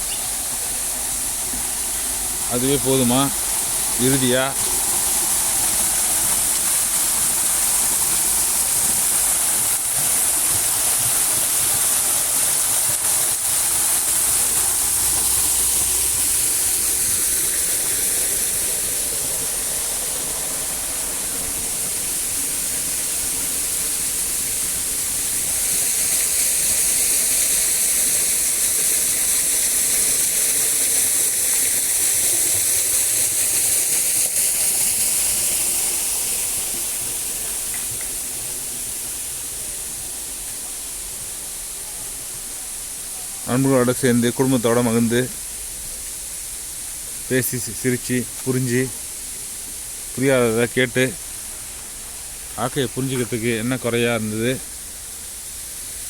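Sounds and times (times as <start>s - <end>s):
falling water rushing: 0.0s - 56.0s.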